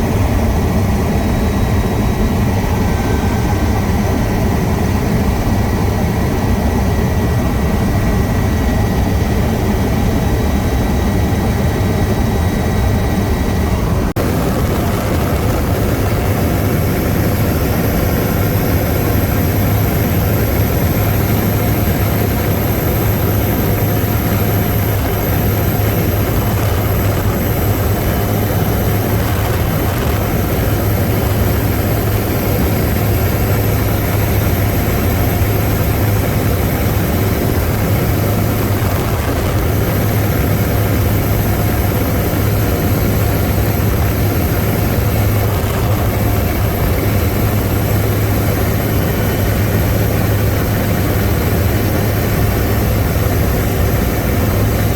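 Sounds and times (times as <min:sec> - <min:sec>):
helicopter engine and rotor noise: 0:00.0 - 0:54.9.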